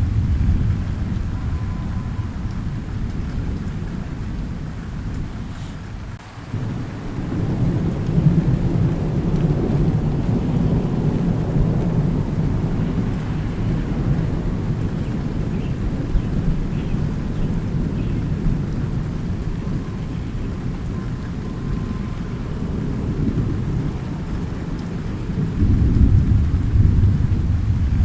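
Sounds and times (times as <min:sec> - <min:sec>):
steady rain: 0:00.0 - 0:28.0
thunder rumbling: 0:00.0 - 0:28.0.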